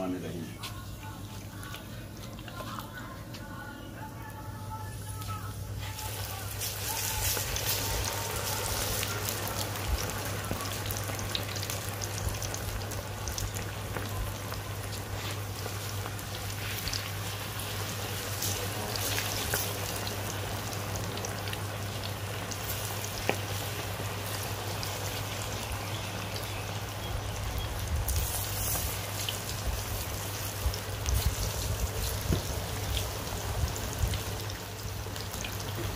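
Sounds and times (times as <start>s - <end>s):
low steady hum: 0.0s - 35.9s
chicken deep-frying in oil: 5.1s - 35.9s.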